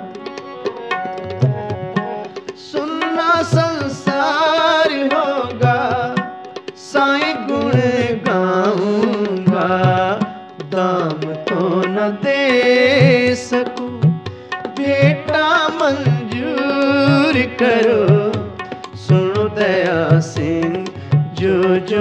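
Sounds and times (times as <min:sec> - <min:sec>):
harmonium: 0:00.0 - 0:22.0
tabla playing a steady rhythm: 0:00.0 - 0:22.0
man singing: 0:02.5 - 0:22.0.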